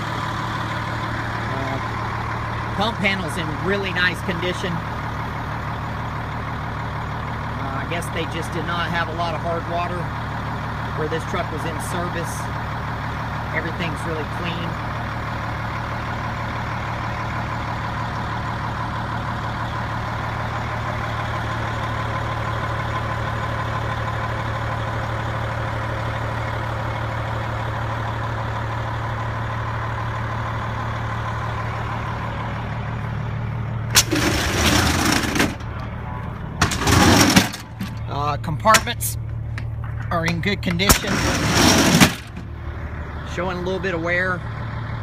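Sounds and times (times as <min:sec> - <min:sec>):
fire engine idling: 0:00.0 - 0:45.0.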